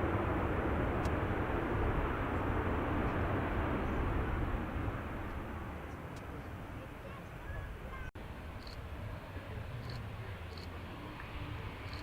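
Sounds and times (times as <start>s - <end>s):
jet engine rumble and hiss: 0.0s - 12.0s.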